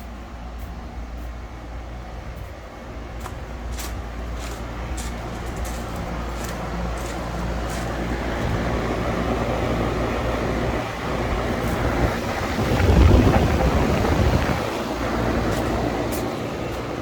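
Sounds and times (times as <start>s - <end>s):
compressor hum: 0.0s - 17.0s
fan rush of air: 0.0s - 17.0s.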